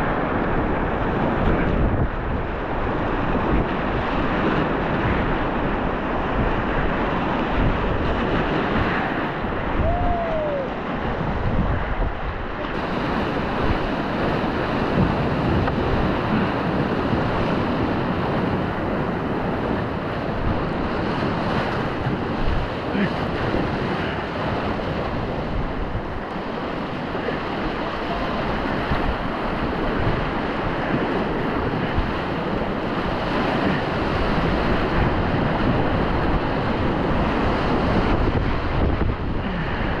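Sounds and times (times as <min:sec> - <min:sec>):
whitewater river rapid roaring: 0:00.0 - 0:40.0.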